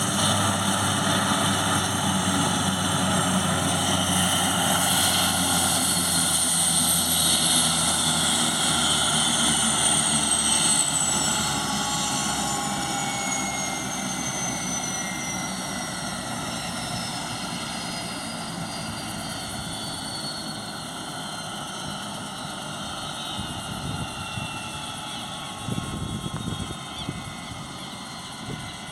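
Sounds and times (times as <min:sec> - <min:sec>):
helicopter turbine whine: 0:00.0 - 0:28.9.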